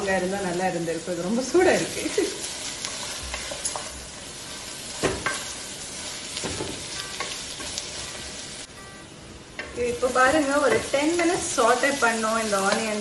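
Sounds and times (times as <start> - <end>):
onions sizzling: 0.0 - 13.0.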